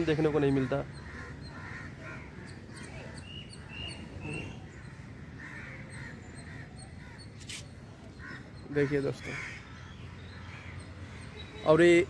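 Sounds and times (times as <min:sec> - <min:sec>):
crows cawing: 0:00.0 - 0:11.9.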